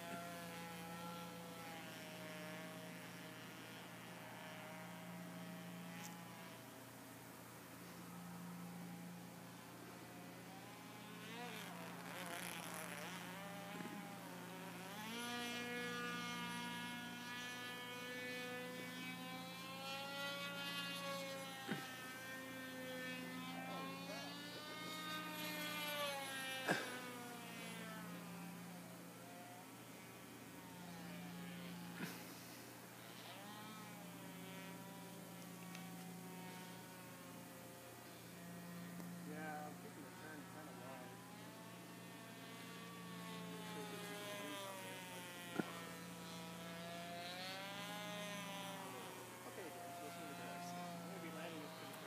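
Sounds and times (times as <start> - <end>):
model plane engine buzz: 0.0 - 52.0
steady low hum: 0.0 - 52.0.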